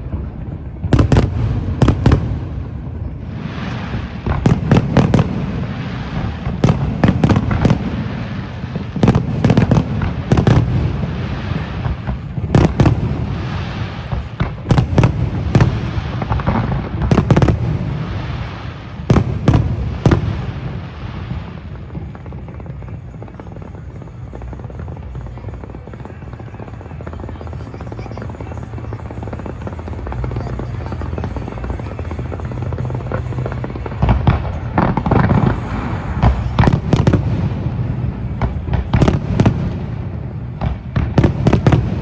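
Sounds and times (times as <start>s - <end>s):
fireworks bangs: 0.0s - 42.0s
low rumbling echo: 0.0s - 42.0s.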